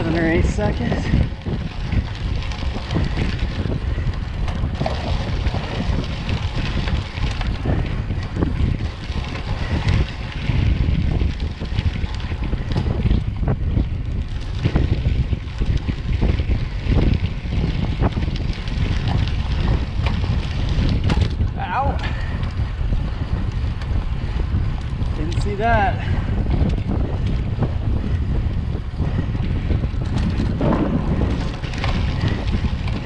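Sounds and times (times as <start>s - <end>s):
tyres rolling over gravel: 0.0s - 22.3s, 23.4s - 33.0s
wind rush on microphone: 0.0s - 33.0s.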